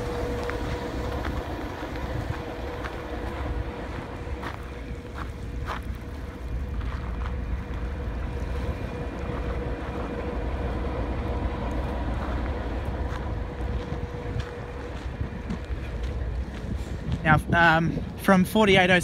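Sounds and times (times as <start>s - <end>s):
footsteps on gravel: 0.0s - 18.2s
faint steady hum: 0.0s - 19.0s
wind buffeting microphone: 0.0s - 19.0s.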